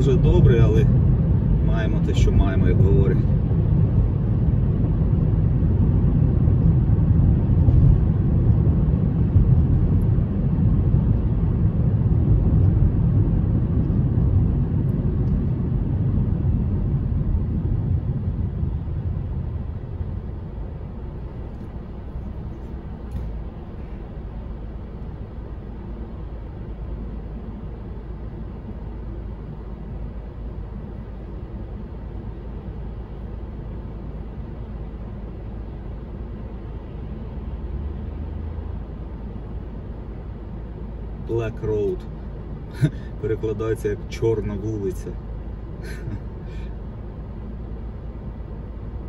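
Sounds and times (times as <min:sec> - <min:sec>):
car engine idling hum: 0:00.0 - 0:49.0
car road and engine rumble: 0:00.0 - 0:49.0.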